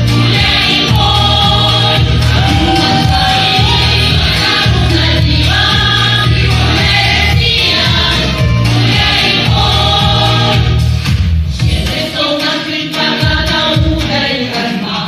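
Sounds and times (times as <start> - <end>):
loud music with pulsing bass: 0.0 - 15.0
vocal group singing in chorus: 0.0 - 15.0.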